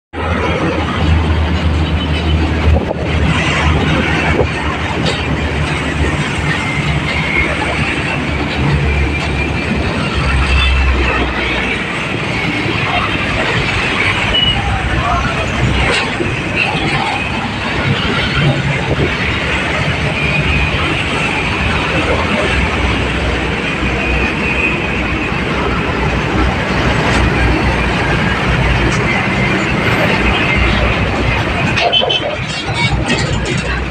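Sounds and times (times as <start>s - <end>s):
road rumble: 0.1s - 33.9s
truck engine drone: 0.2s - 33.9s.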